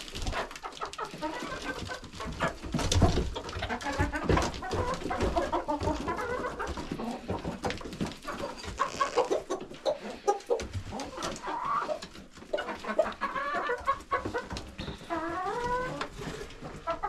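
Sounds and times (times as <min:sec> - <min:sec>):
chickens clucking: 0:00.0 - 0:17.0
chickens warbling calls: 0:00.0 - 0:17.0.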